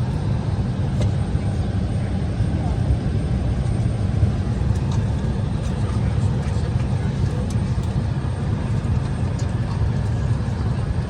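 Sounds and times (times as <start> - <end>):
aircraft cabin ventilation rumble: 0.0 - 11.0.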